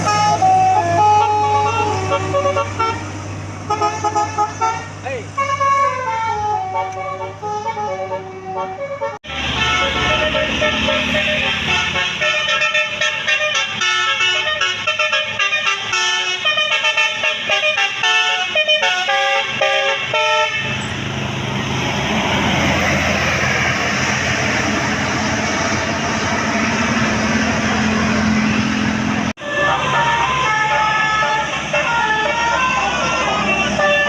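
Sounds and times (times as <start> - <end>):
multi-tone musical bus horn: 0.0 - 21.0, 24.8 - 34.0.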